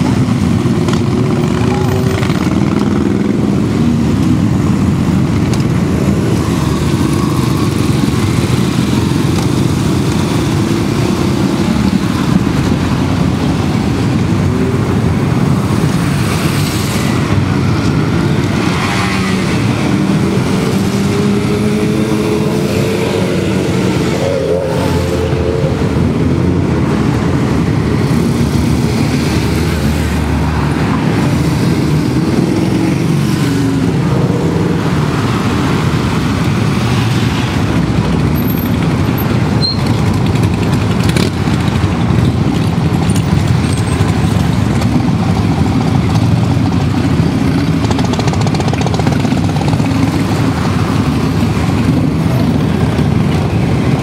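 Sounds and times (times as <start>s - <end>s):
cars passing: 0.0s - 54.0s
motorcycle revving: 0.0s - 54.0s.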